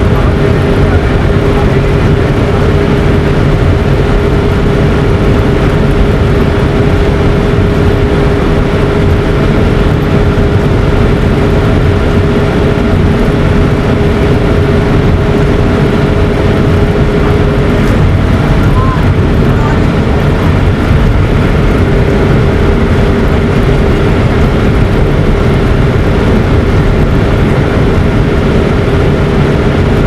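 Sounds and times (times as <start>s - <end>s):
loud rushing noise: 0.0s - 30.0s
motor humming: 0.0s - 30.0s.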